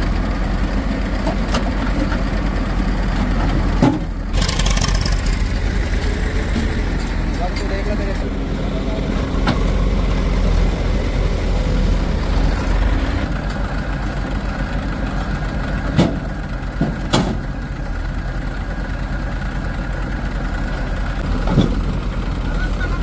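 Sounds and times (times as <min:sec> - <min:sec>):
diesel machinery engine running: 0:00.0 - 0:23.0.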